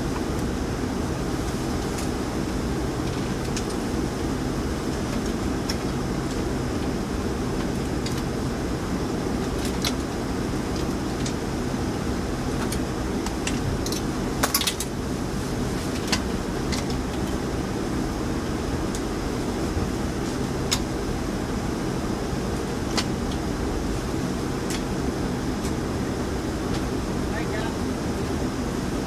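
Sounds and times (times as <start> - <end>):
low mechanical drone: 0.0 - 29.0.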